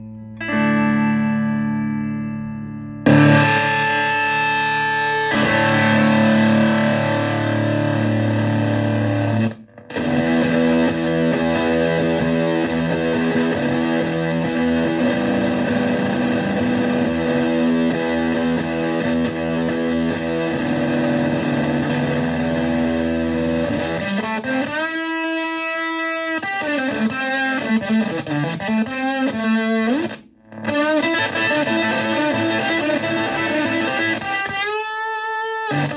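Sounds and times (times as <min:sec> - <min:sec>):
fuzzy distorted electric guitar: 0:00.0 - 0:35.9.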